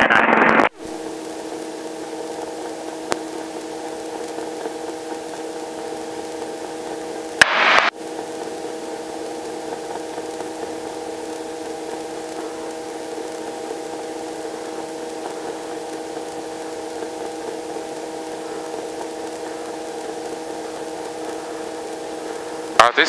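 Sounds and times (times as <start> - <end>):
helicopter cabin hum: 0.0 - 23.0.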